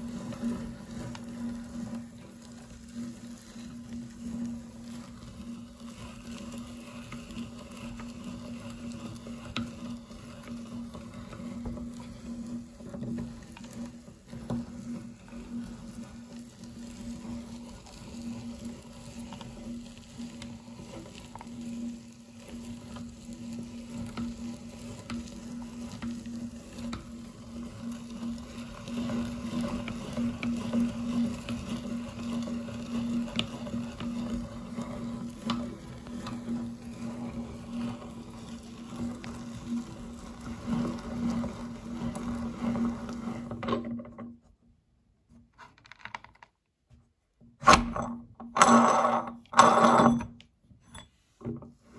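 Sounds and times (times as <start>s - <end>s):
meat grinder crunching candy: 0.0s - 44.0s.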